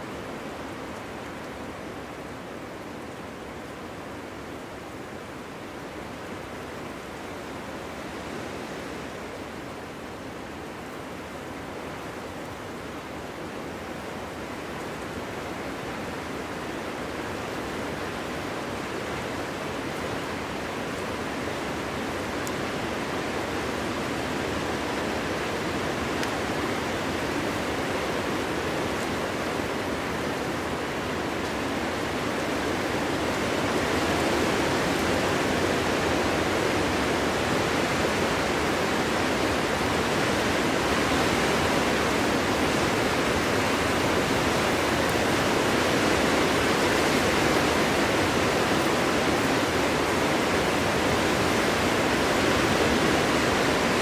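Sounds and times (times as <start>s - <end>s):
wind blowing through forest: 0.0s - 54.0s.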